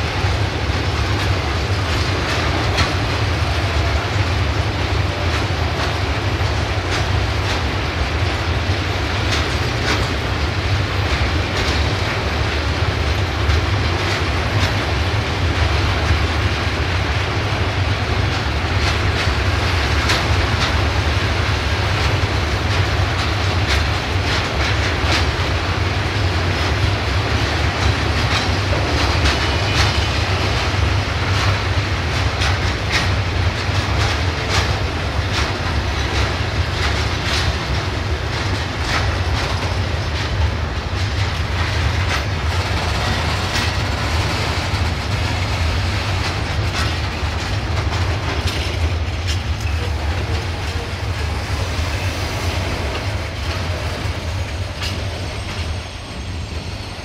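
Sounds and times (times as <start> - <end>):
train low rumble: 0.0 - 57.0
train wheels clicking over rail joints: 0.0 - 57.0.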